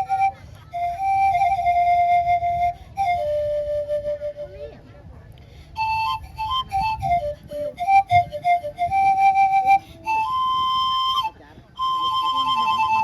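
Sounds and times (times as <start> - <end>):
bamboo panpipe playing: 0.0 - 4.9, 5.6 - 13.0.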